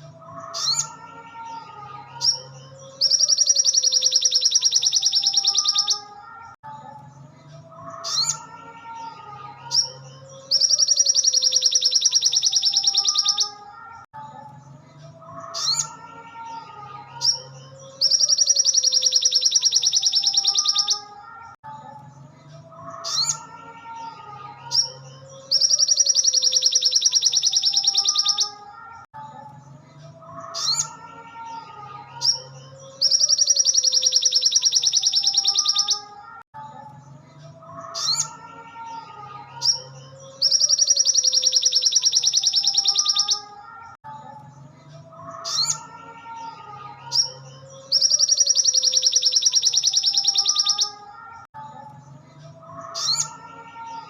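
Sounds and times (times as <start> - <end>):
bird chirps and trill: 0.0 - 54.0.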